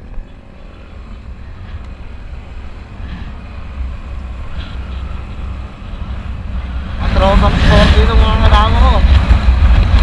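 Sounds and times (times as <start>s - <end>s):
road noise: 0.0s - 10.0s
wind rumbling on microphone: 0.0s - 10.0s.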